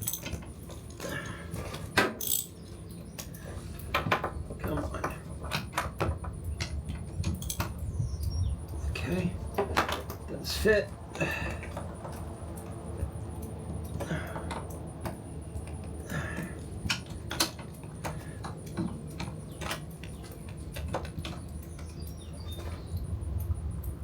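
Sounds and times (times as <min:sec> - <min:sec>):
hand tools clicking and clinking: 0:00.0 - 0:07.8, 0:09.4 - 0:23.8
low background hum: 0:00.0 - 0:24.0.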